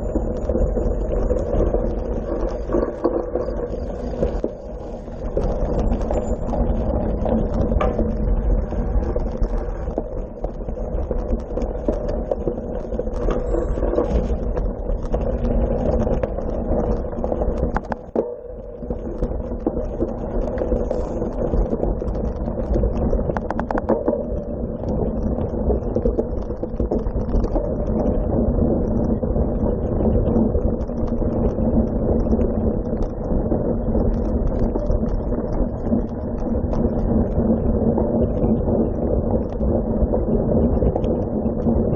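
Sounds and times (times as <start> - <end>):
bike tyre rumble on dirt: 0.0 - 41.9
wind buffeting microphone: 0.0 - 41.9.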